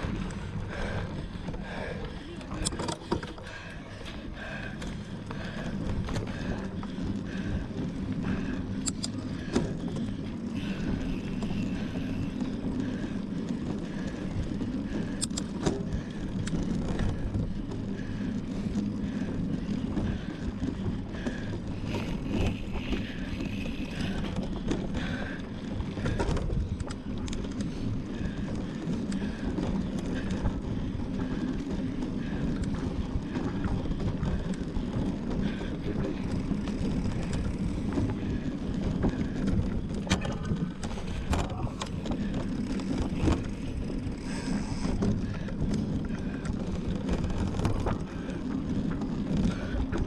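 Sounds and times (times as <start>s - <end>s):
bike rattling over bumps: 0.0s - 50.0s
bike tyre and wind rumble: 0.0s - 50.0s.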